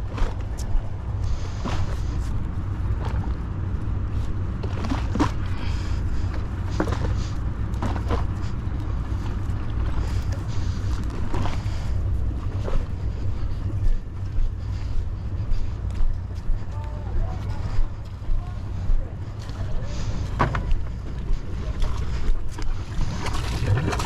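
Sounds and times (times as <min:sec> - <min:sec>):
boat engine rumbling: 0:00.0 - 0:24.0.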